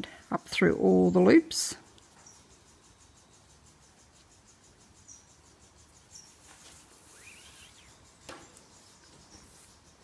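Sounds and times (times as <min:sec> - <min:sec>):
high-pitched insect chirping: 0:00.0 - 0:10.0.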